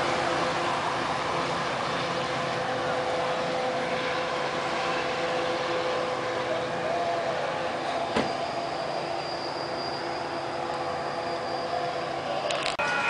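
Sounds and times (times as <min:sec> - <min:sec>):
train rumbling away: 0:00.0 - 0:13.0.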